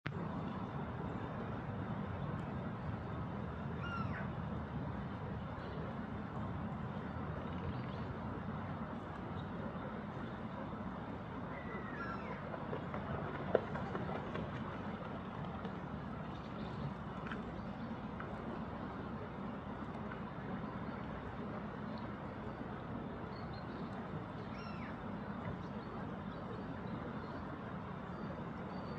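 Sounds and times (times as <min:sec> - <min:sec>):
low rumbling background noise: 0:00.1 - 0:28.9.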